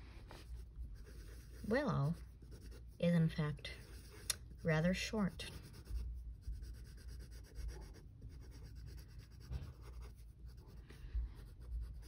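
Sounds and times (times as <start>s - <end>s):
low background rumble: 0.0s - 12.0s
pencil strokes on paper: 0.2s - 12.0s.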